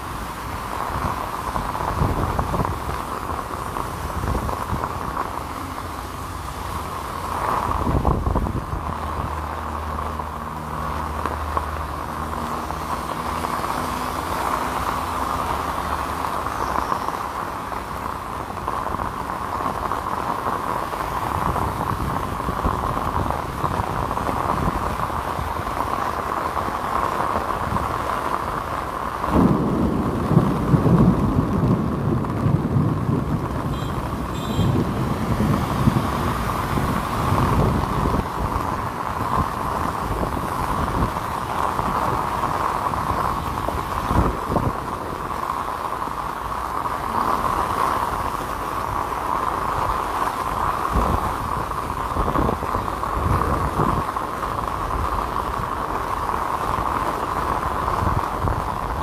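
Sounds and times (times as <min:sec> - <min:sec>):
heavy rain hissing: 0:00.0 - 0:59.0
rain drumming on umbrella: 0:00.0 - 0:59.0.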